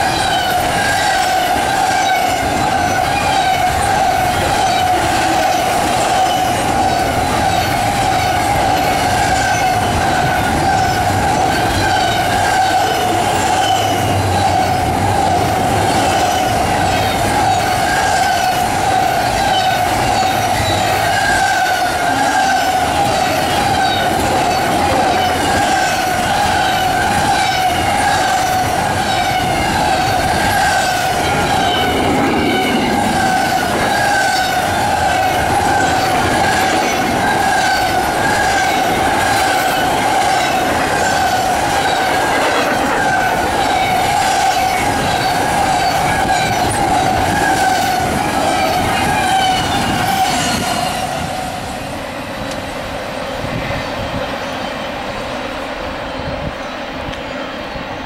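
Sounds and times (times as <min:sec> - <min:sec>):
high wheel squeal: 0:00.0 - 0:51.8
train wheels clattering over rails: 0:00.0 - 0:55.3.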